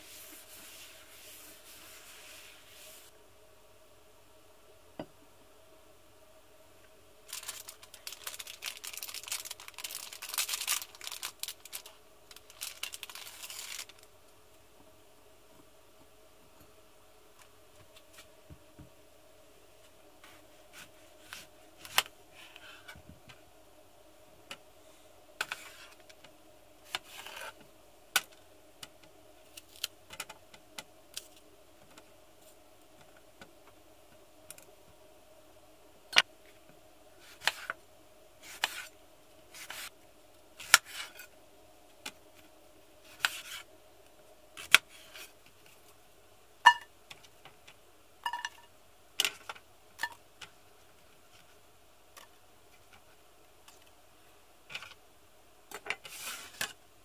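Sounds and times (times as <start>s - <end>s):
faint hum: 0.0s - 57.0s.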